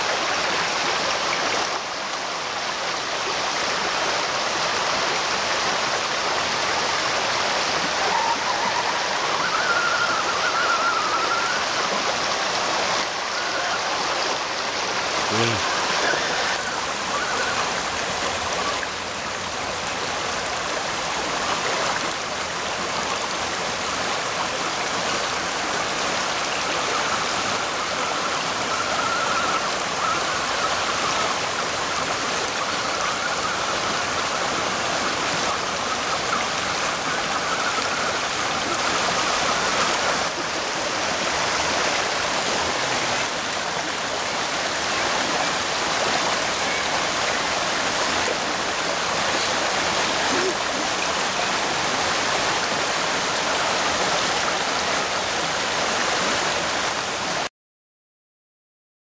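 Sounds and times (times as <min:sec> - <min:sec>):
river water rushing over rocks: 0:00.0 - 0:57.5.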